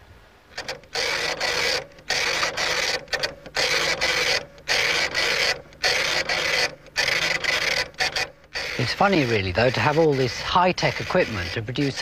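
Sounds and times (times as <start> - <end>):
dot matrix printer buzzing: 0.5 - 12.0.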